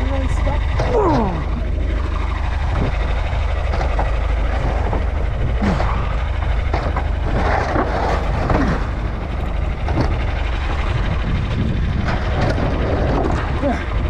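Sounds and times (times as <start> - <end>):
low engine drone: 0.0 - 14.0
metal rattling and clanking: 0.0 - 14.0.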